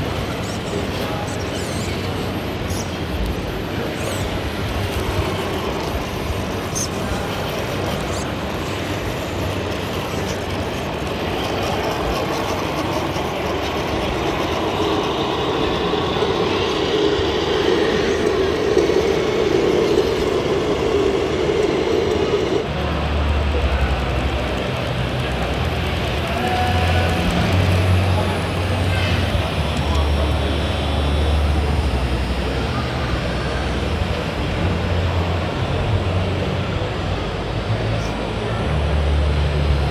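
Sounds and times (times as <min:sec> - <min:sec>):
crowd murmur: 0:00.0 - 0:39.9.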